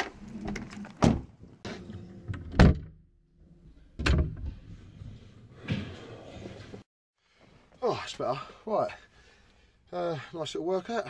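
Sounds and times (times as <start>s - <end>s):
outside noise: 0.0s - 11.0s.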